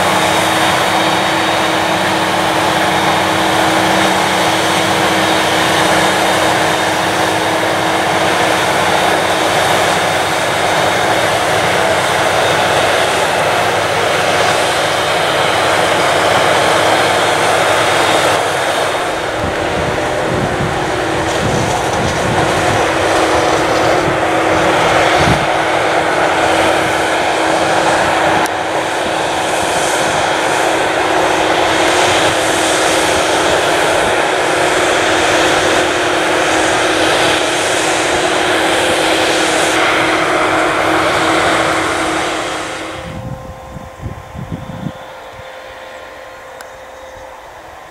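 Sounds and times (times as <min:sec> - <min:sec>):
forage harvester engine drone: 0:00.0 - 0:47.9
tractor running: 0:00.0 - 0:47.9.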